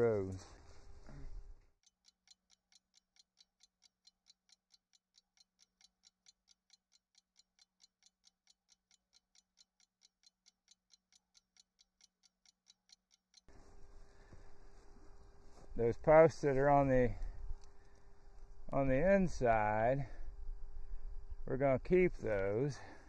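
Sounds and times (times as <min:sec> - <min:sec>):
faint clock ticking: 0:01.6 - 0:23.0.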